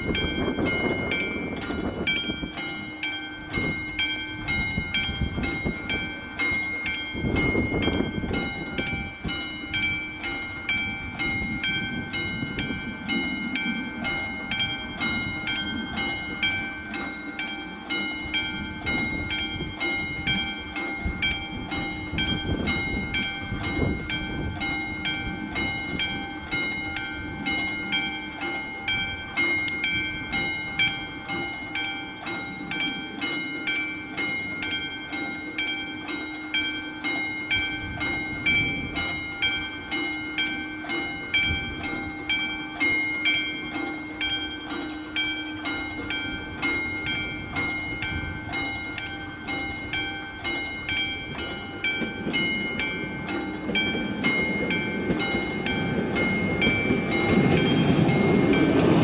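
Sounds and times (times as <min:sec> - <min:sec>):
level-crossing warning bell ringing: 0:00.0 - 0:59.0.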